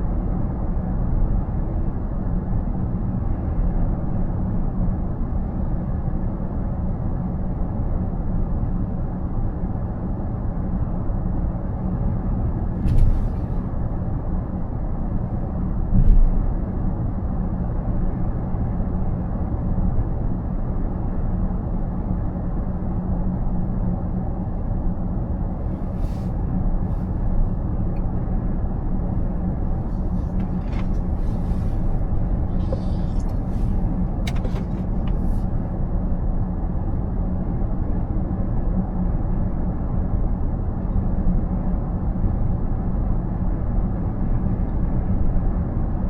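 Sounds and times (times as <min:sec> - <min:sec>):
road and tyre noise in car: 0:00.0 - 0:46.0.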